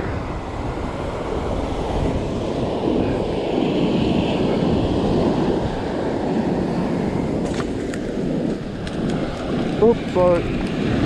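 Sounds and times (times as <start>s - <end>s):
surf washing up beach: 0.0s - 11.0s
wind rumbling on microphone: 0.0s - 11.0s.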